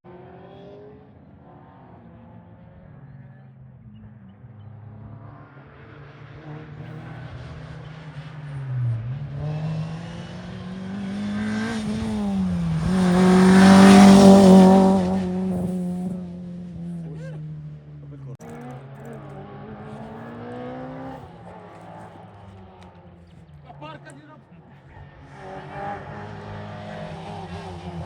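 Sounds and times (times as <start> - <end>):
rally car passing at speed: 0.1 - 3.2, 3.9 - 28.0.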